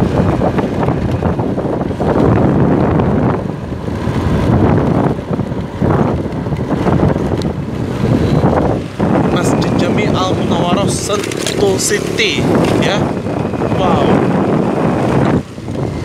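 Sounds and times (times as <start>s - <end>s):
road noise: 0.0s - 16.0s
scooter engine running: 0.0s - 16.0s
wind buffeting microphone: 0.0s - 16.0s.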